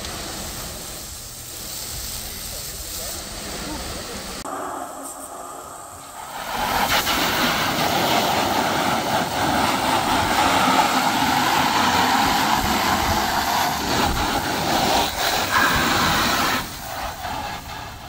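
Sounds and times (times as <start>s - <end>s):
hose spraying water on fabric: 0.0s - 4.4s, 6.0s - 18.0s.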